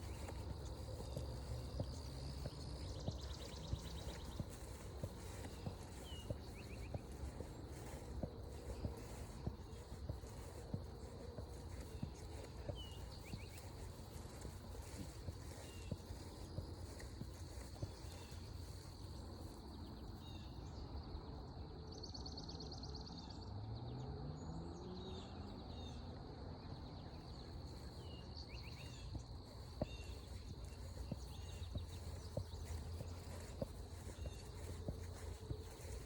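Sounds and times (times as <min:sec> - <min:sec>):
footsteps on forest trail: 0:00.0 - 0:20.8, 0:27.3 - 0:36.0.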